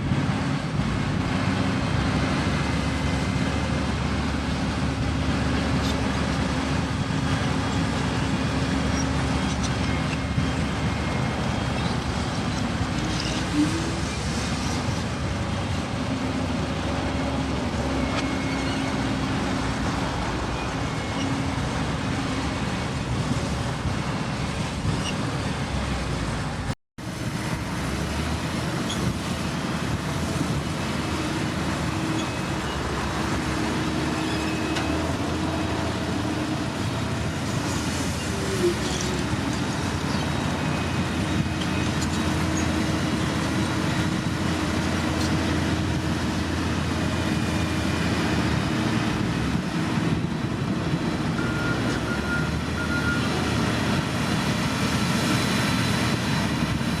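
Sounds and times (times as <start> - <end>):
heavy machinery engines running: 0.0 - 57.0.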